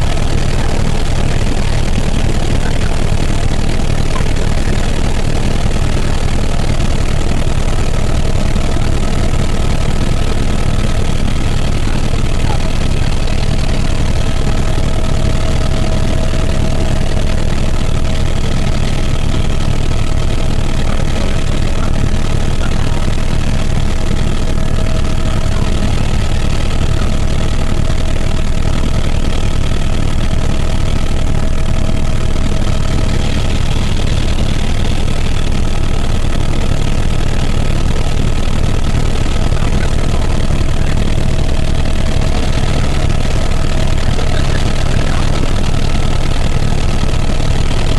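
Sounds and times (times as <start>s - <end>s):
faint steady whine: 0.0s - 47.9s
helicopter engine and rotor drone: 0.0s - 47.9s.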